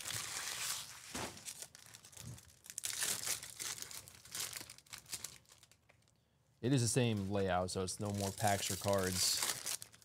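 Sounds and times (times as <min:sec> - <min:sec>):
foil wrapper crinkling and tearing: 0:00.0 - 0:06.1, 0:08.0 - 0:10.0.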